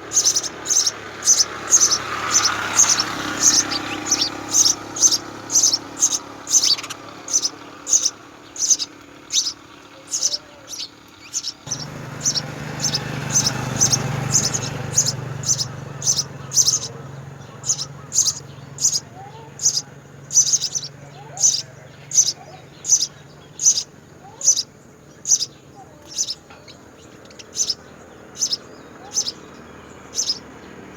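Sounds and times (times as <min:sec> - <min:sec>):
low background rumble: 0:00.0 - 0:29.4
sparrow chirping: 0:00.0 - 0:30.9.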